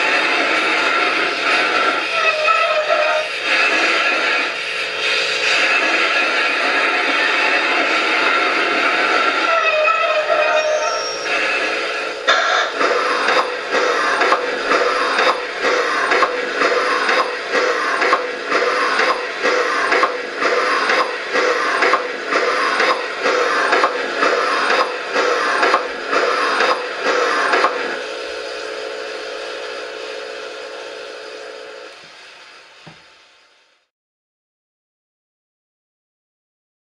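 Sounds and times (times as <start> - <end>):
model steam exhaust beats: 0.0 - 33.9.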